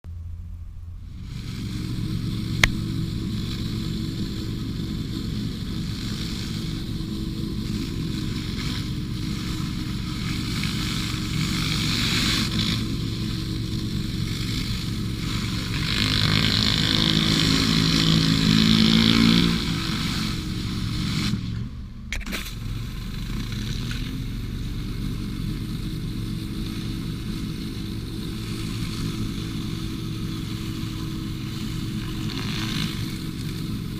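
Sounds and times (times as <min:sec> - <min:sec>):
engine running: 0:00.0 - 0:33.9
loud hiss: 0:01.0 - 0:33.9.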